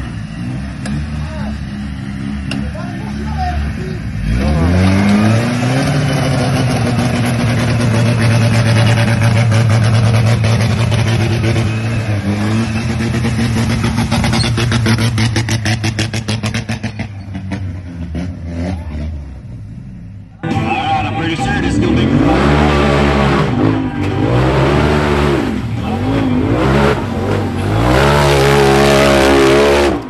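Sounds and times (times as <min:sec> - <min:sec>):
car engine at high revs: 0:00.0 - 0:20.1, 0:21.1 - 0:30.0.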